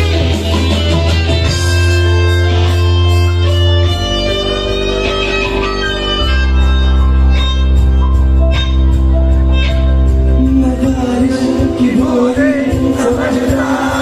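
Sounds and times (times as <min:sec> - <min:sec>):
electric guitar: 0:00.0 - 0:14.0
held bass notes: 0:00.0 - 0:14.0.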